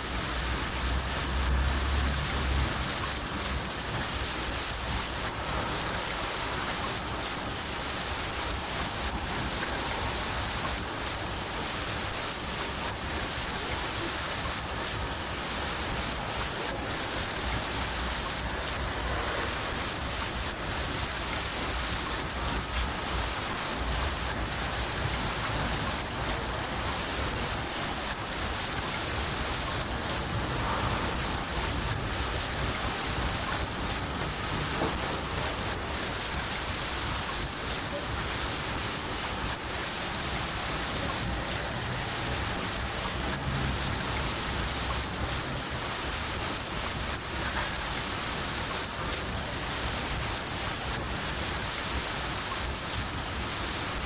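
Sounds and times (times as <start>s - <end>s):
cricket chirping: 0.0s - 54.0s
rain hiss: 0.0s - 54.0s.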